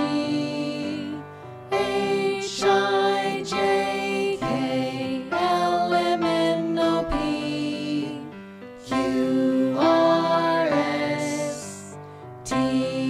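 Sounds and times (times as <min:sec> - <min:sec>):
children's song melody: 0:00.0 - 0:13.0.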